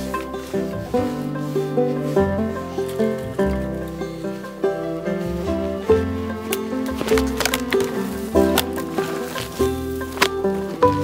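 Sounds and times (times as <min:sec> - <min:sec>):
low bass line: 0:00.0 - 0:11.0
plucked string tune: 0:00.0 - 0:11.0.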